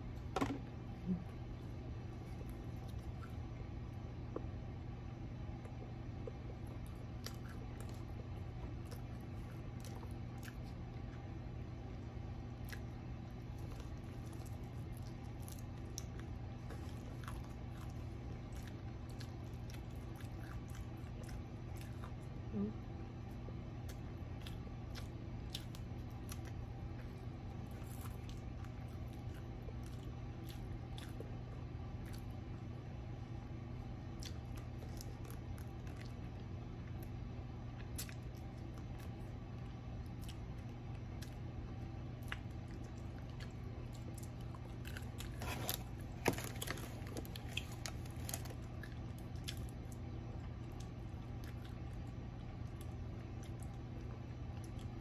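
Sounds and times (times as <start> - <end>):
chewing crisp fried food: 0.0 - 4.8, 5.5 - 55.0
steady low hum: 0.0 - 55.0.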